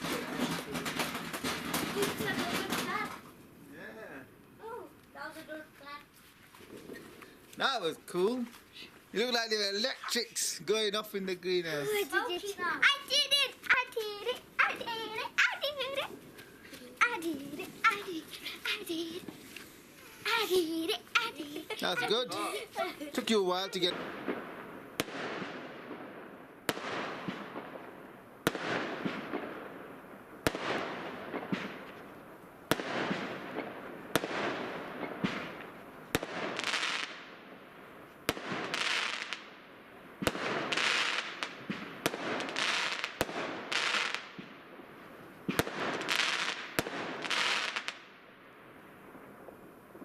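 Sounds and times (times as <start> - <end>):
fireworks bangs: 0.0 - 3.4, 6.6 - 50.0
fireworks crackling hiss: 0.0 - 50.0.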